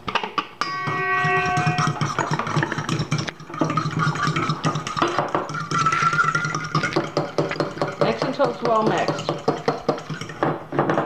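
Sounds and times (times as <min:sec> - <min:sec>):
steel bowl ringing: 0:00.6 - 0:10.4
fork beating eggs in bowl: 0:00.9 - 0:10.5.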